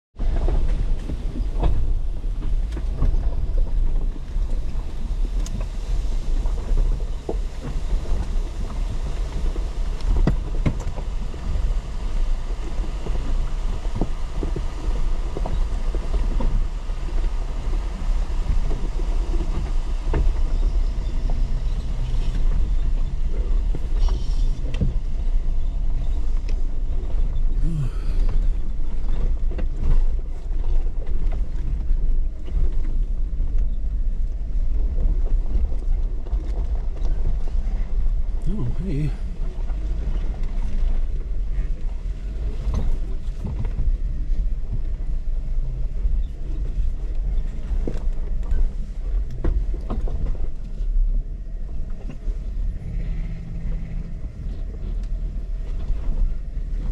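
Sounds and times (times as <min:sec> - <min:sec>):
engine running low: 0:00.2 - 0:56.9.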